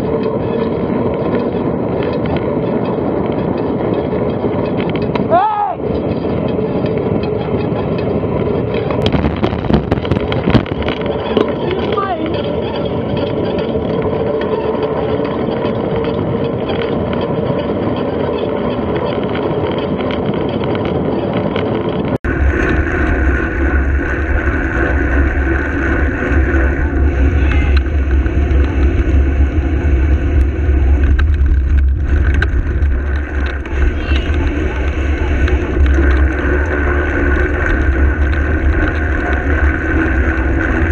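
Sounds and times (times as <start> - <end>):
road rumble: 0.0 - 40.9
wind noise on microphone: 0.0 - 40.9.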